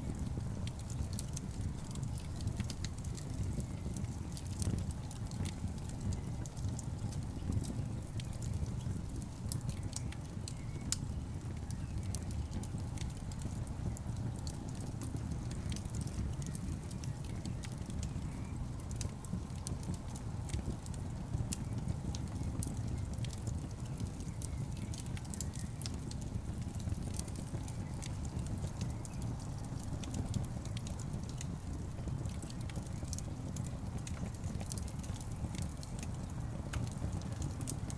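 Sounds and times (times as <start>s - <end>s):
fire rumbling: 0.0s - 37.9s
wood crackling and popping: 0.0s - 37.9s.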